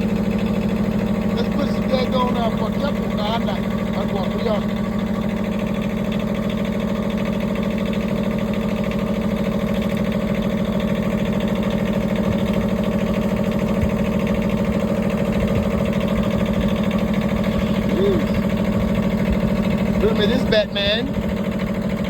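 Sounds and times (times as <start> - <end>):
sawmill engine running steadily: 0.0 - 22.0.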